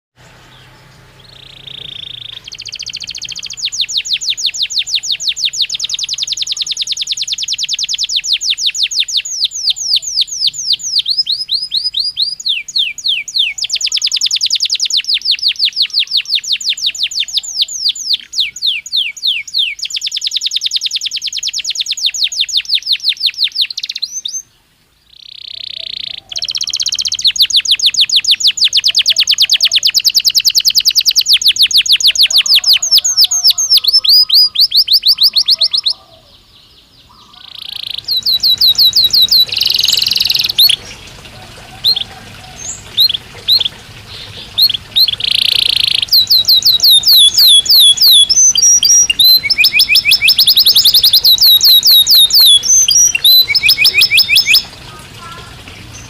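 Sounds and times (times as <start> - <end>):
canary singing trills: 0.2 - 56.0.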